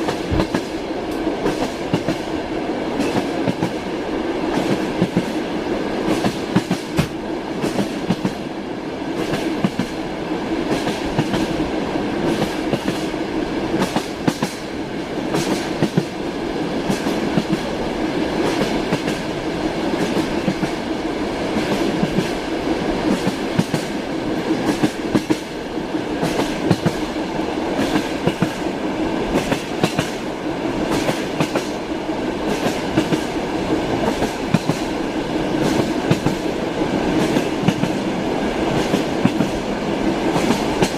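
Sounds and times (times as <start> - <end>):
train wheels clacking on rails: 0.0 - 40.9.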